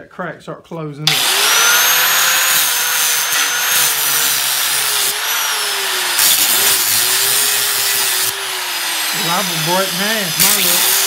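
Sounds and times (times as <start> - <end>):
angle grinder cutting steel: 1.0 - 11.0.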